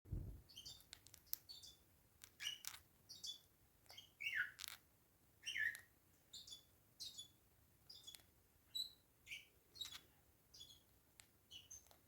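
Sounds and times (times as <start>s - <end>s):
soft falling bird chirps: 0.2s - 4.8s, 5.4s - 12.0s.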